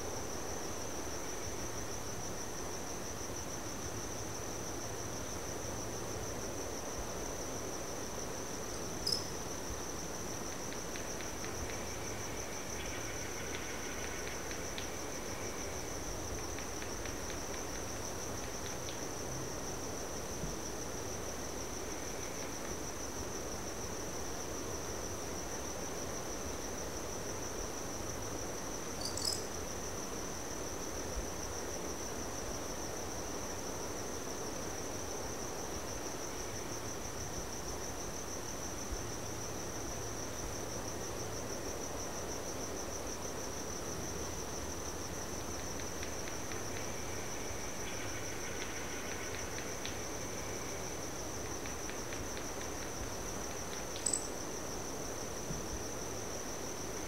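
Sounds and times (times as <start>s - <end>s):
crickets trilling: 0.0s - 57.0s
soft background noise: 0.0s - 57.0s.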